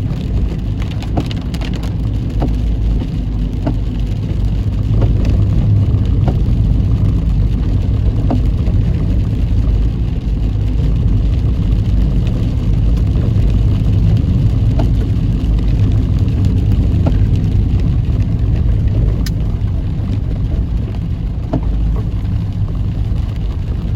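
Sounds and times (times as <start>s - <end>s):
engine and road rumble: 0.0s - 23.9s.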